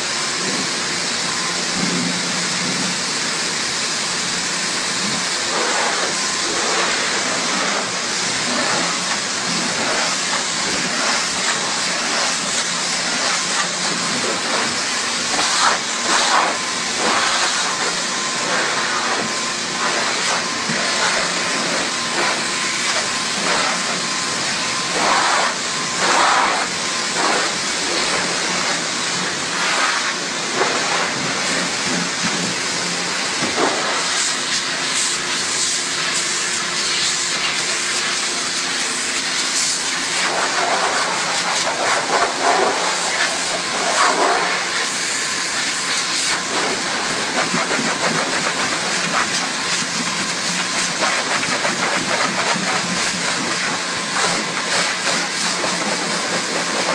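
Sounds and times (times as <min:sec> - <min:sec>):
high-pressure water jet hissing: 0:00.0 - 0:56.9.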